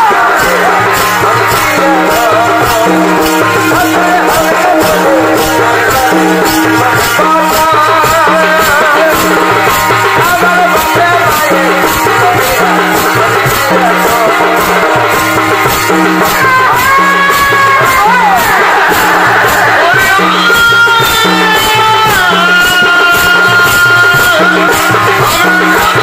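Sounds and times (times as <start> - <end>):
steady drum pattern: 0.0 - 26.0.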